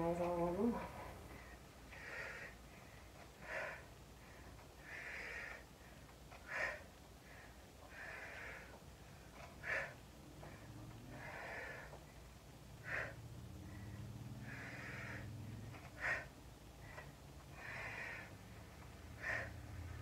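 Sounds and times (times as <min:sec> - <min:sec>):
person breathing heavily: 0:01.0 - 0:20.0.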